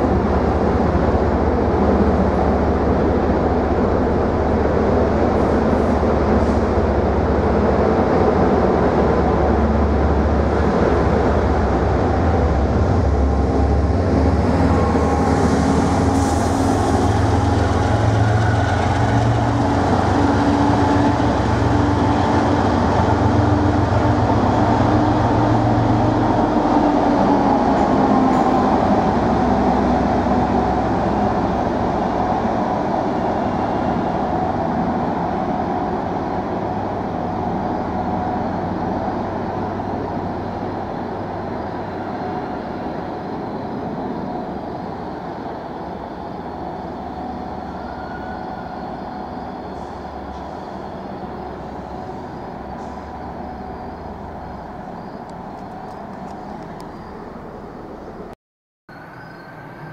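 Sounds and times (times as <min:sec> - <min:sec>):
train whine: 0:00.0 - 0:58.3, 0:58.9 - 0:59.9
train running on rails: 0:00.0 - 0:59.9.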